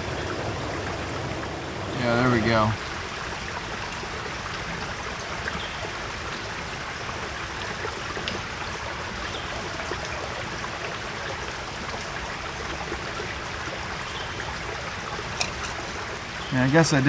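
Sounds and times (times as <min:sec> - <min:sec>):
stream running: 0:00.0 - 0:17.0.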